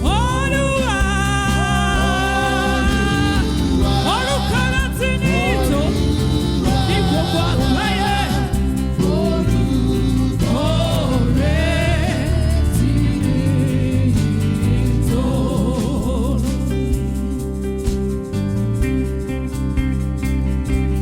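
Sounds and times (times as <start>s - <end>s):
person singing gospel: 0.0s - 17.5s
band backing with bass line: 0.0s - 21.0s.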